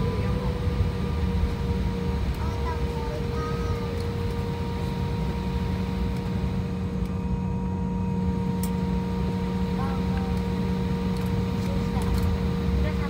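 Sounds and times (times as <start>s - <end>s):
aircraft cabin rumble: 0.0s - 13.0s
engine hum: 0.0s - 13.0s.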